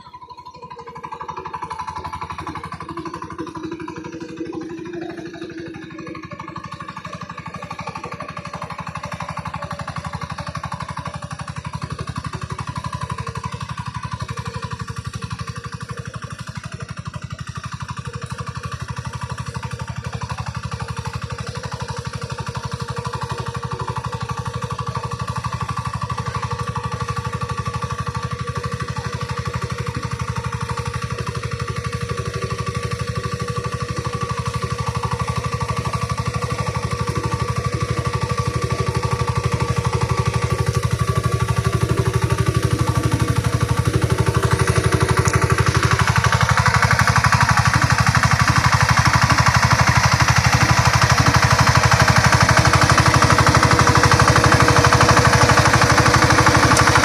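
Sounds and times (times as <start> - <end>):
tractor engine chugging: 0.0 - 57.0.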